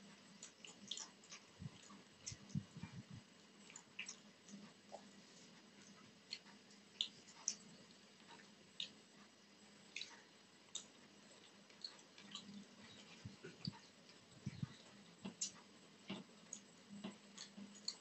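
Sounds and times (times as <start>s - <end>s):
wet chewing clicks: 0.3s - 18.0s.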